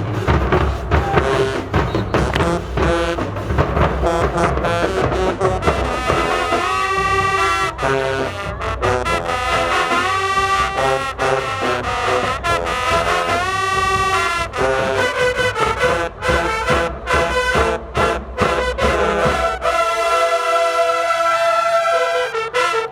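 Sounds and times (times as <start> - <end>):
drums: 0.0 - 20.4
marching band playing: 0.0 - 22.9
brass section held chords: 1.2 - 22.9.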